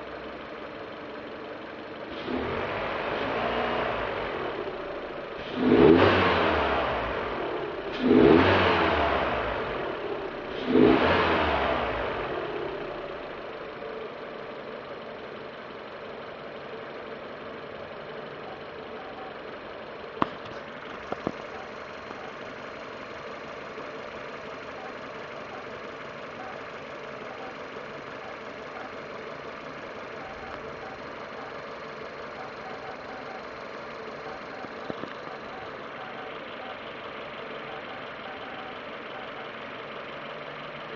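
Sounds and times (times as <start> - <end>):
car engine blipping: 0.0 - 40.9
car engine idling: 0.0 - 40.9
faint regular engine noise: 0.0 - 40.9.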